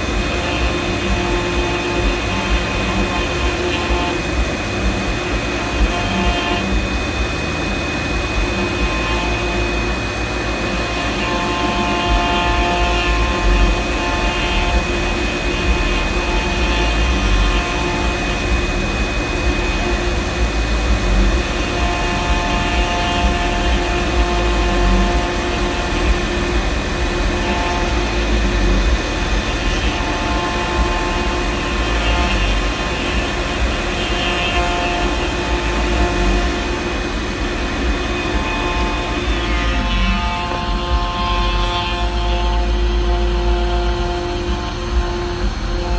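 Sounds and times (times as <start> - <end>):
lower machine whine: 0.0 - 45.9
router spindle high whine: 0.0 - 45.9.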